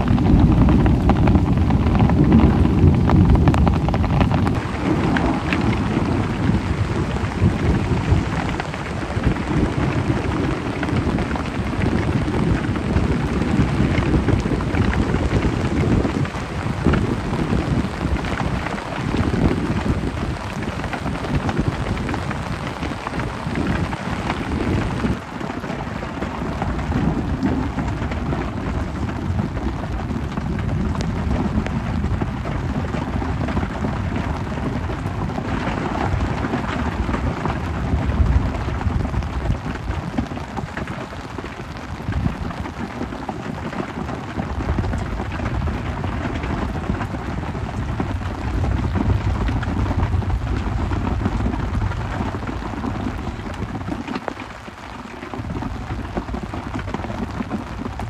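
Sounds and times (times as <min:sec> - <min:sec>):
heavy rain falling: 0:00.0 - 0:58.0
thunder rumbling: 0:00.0 - 0:58.0.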